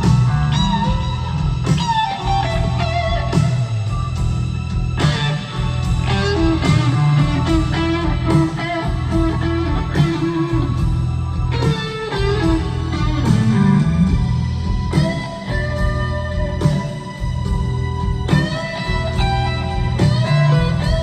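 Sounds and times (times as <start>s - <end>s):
electric guitar solo: 0.0s - 21.0s
rock band playing: 0.0s - 21.0s.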